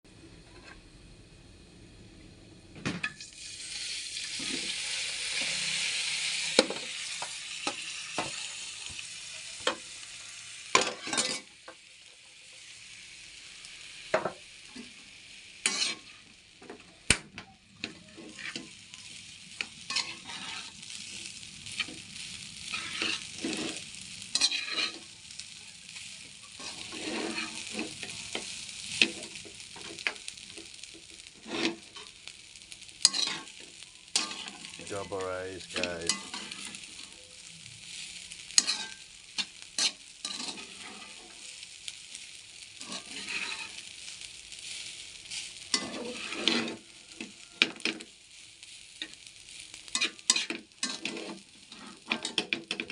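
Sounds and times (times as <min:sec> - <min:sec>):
rice sizzling in a pan: 0:00.1 - 0:52.9.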